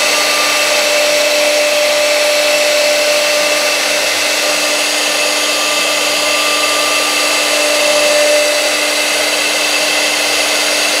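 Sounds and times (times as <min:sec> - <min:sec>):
router spindle whining through wood: 0:00.0 - 0:11.0.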